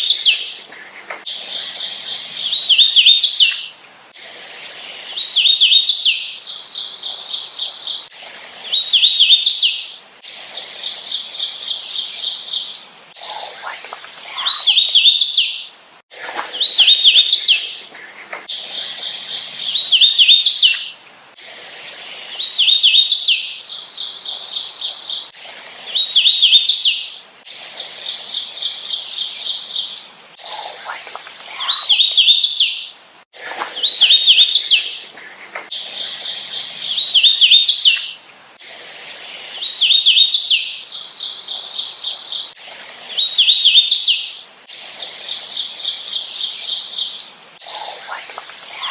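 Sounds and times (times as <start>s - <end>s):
warbler singing whistled notes: 0.0s - 0.7s, 1.3s - 3.8s, 4.8s - 10.0s, 10.6s - 15.8s, 16.4s - 17.9s, 18.5s - 21.0s, 22.2s - 27.2s, 28.0s - 33.0s, 33.7s - 38.2s, 39.4s - 44.4s, 45.2s - 48.9s.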